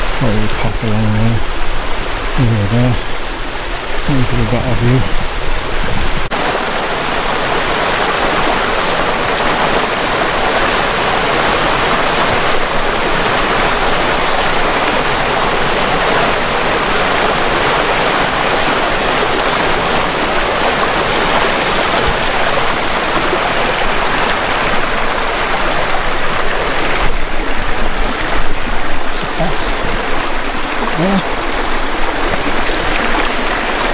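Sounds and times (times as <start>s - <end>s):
stream and waterfall over rocks: 0.0s - 33.9s.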